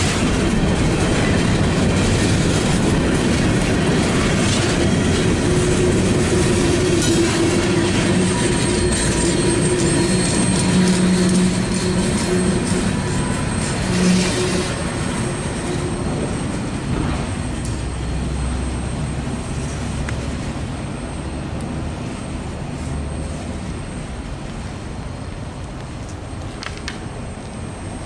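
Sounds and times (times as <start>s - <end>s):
deep rumble on steel bridge: 0.0s - 28.0s
freight train wheels rumbling on track: 0.0s - 28.0s
low whine from train wheels: 0.0s - 28.0s.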